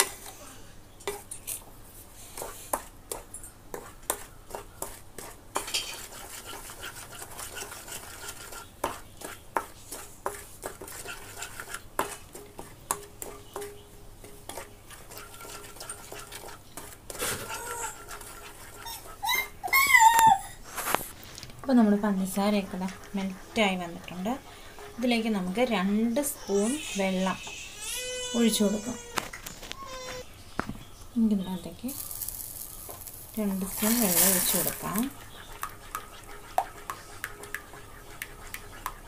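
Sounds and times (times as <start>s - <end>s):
wooden spatula scraping a pan: 2.0s - 19.5s, 20.7s - 27.6s, 31.9s - 39.0s.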